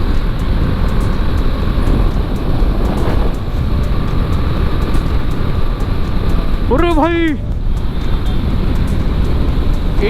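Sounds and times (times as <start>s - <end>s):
motorcycle engine running: 0.0s - 10.0s
wind and road noise: 0.0s - 10.0s.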